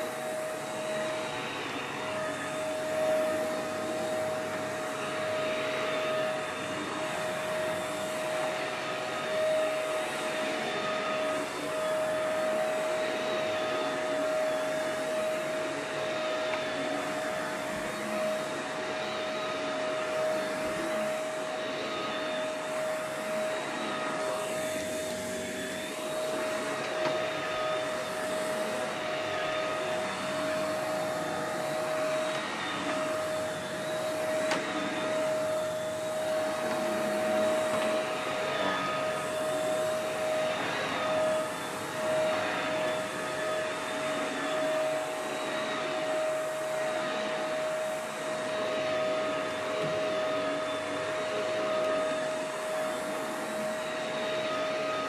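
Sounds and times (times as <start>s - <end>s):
vacuum cleaner motor whine: 0.0s - 55.0s
vacuum pushed over carpet: 0.0s - 55.0s.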